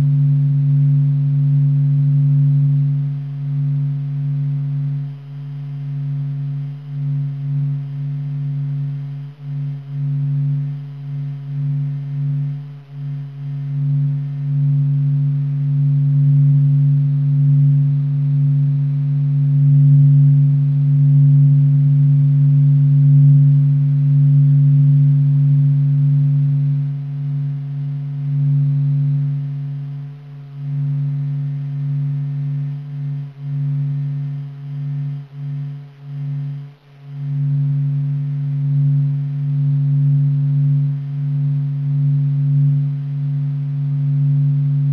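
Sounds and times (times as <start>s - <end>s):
low droning hum: 0.0s - 44.9s.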